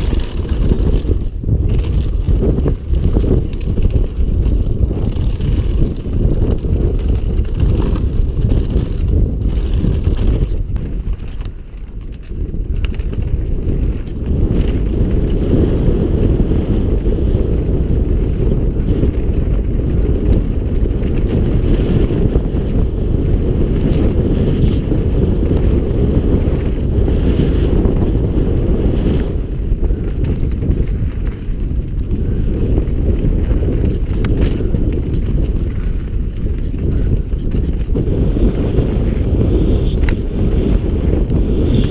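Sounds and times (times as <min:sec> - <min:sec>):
bike knocks and rattles: 0:00.0 - 0:41.9
bike tyre noise: 0:00.0 - 0:41.9
wind buffeting microphone: 0:00.0 - 0:41.9.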